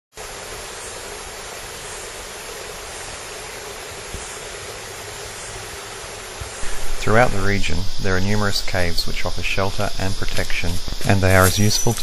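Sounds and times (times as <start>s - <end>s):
steady hiss: 0.2s - 12.0s.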